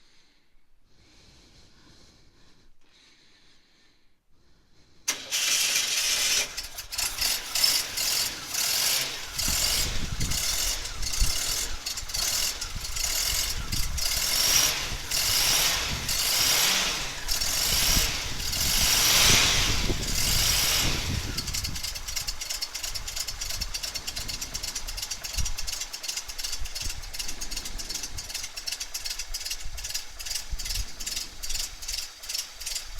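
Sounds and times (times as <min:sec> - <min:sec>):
engine starting and running: 0:05.0 - 0:32.9.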